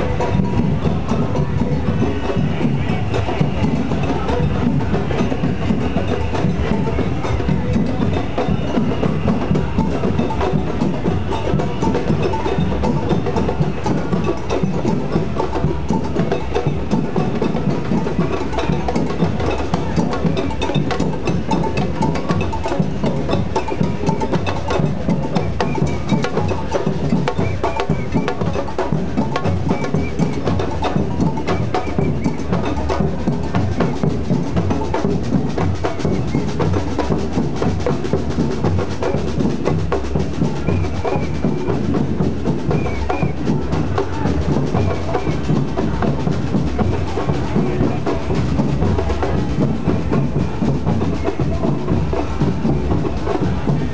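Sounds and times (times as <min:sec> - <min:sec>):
bass and snare drums playing: 0:00.0 - 0:53.9.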